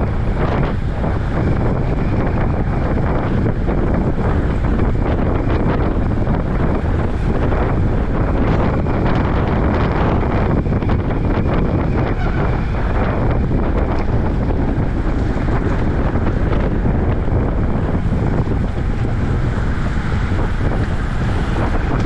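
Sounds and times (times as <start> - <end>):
loud wind on microphone: 0.0 - 22.0.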